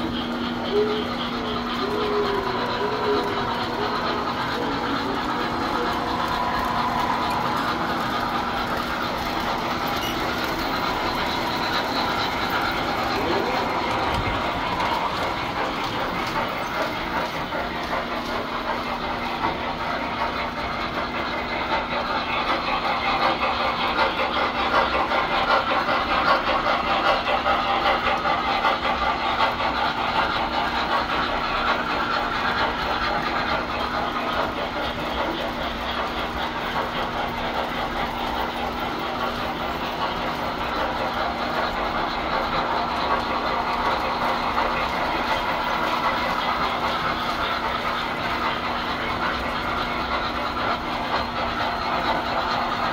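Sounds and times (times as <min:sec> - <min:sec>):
fine rapid clicking: 0:00.0 - 0:52.9
model trains rumbling on track: 0:00.0 - 0:52.9.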